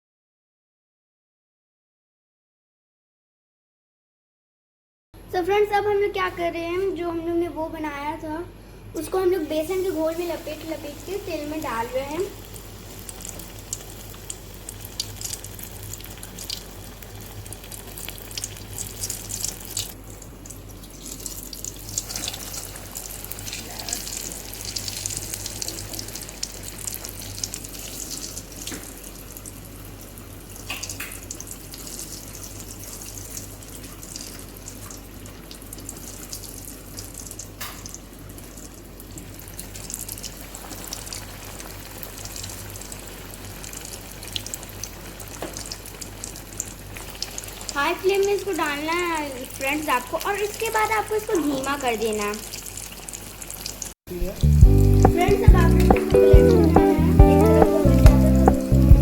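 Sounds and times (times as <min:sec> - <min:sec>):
low electrical hum: 0:05.2 - 0:59.0
food deep-frying in oil: 0:09.4 - 0:56.7.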